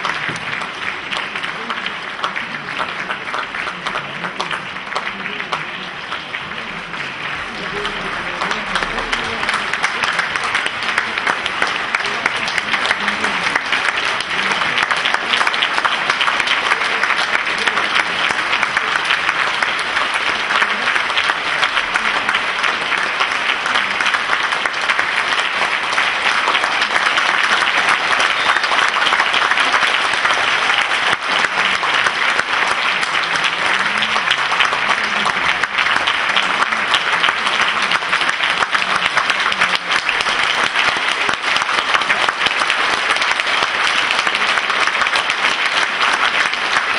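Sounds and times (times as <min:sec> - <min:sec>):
audience applauding: 0:00.0 - 0:46.9.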